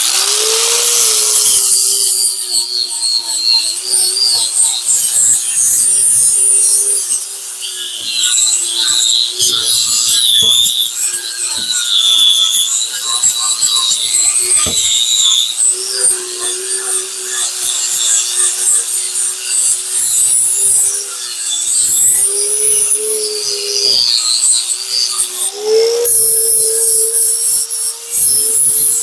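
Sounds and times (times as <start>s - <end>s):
angle grinder motor whine: 0.0s - 29.0s.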